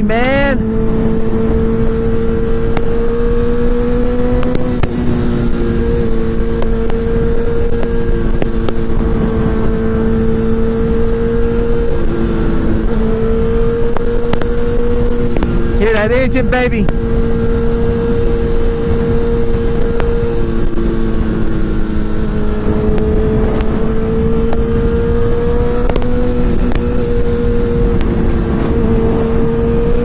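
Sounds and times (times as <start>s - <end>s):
motorcycle engine at high revs: 0.0s - 30.0s.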